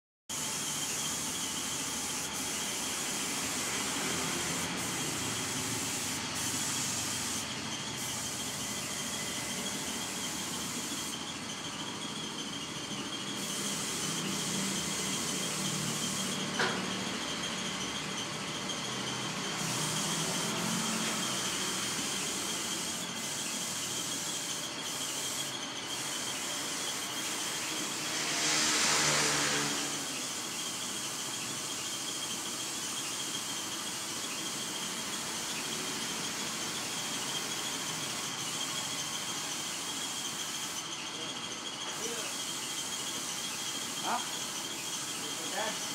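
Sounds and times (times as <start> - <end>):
spray gun hissing: 0.3 - 45.9.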